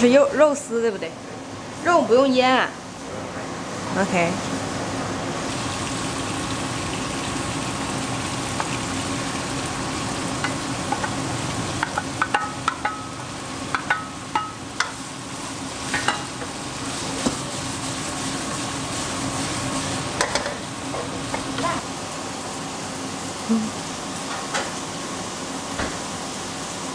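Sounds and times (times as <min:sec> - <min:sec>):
vegetables and pork sizzling in wok: 0:00.0 - 0:26.9.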